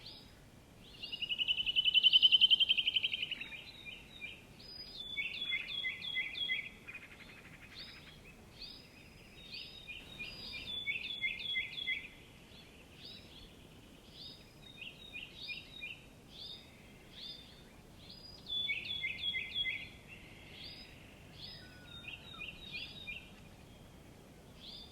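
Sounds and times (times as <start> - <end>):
small songbirds chirping: 0.0 - 24.9.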